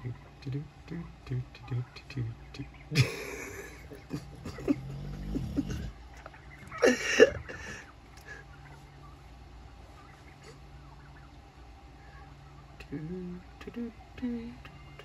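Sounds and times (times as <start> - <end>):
low steady hum: 0.0 - 15.0
wild turkeys calling: 0.1 - 12.8.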